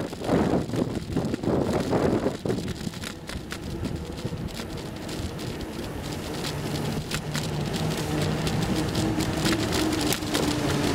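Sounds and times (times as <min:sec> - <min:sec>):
bicycle tyres crackling on rough surface: 0:00.0 - 0:10.9.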